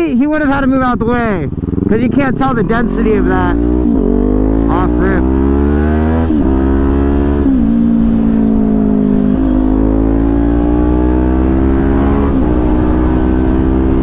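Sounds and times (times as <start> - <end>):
motorcycle engine accelerating: 0.3 - 14.0.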